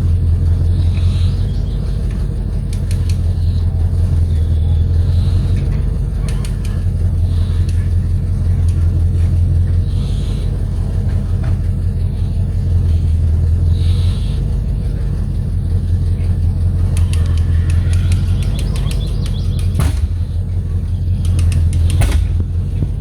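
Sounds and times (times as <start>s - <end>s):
boat motor droning: 0.0s - 23.0s.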